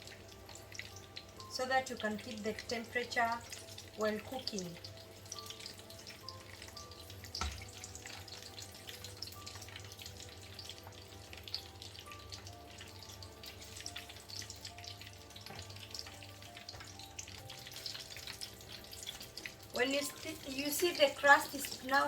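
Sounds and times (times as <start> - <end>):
oil crackling and bubbling: 0.0 - 22.0.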